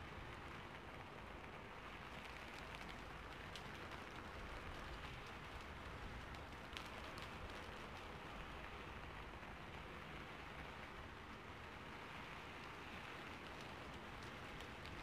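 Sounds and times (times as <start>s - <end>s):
faint rain falling: 0.0s - 15.0s
rain drop ticks: 0.0s - 15.0s.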